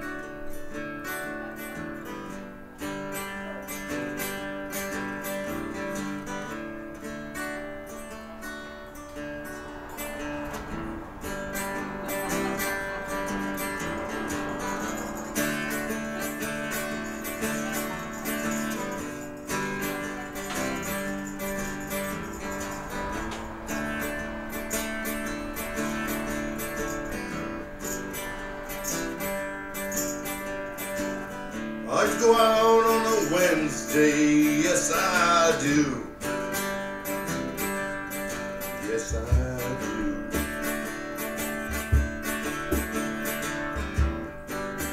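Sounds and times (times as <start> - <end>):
strummed acoustic guitar: 0.0 - 44.9.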